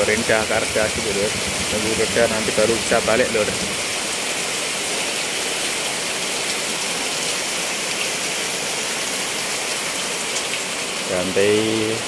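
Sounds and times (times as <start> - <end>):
heavy rain on a wet street: 0.0 - 12.0.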